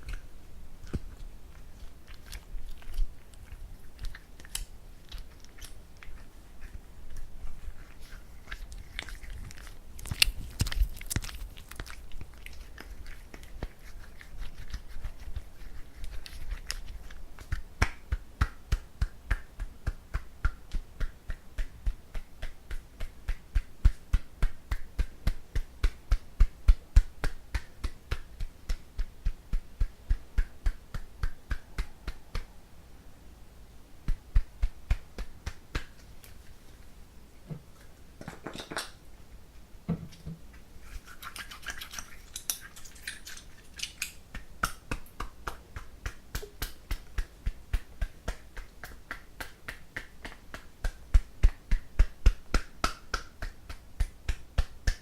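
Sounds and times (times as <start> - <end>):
rubbing and rustling: 0.0 - 32.5, 34.0 - 55.0.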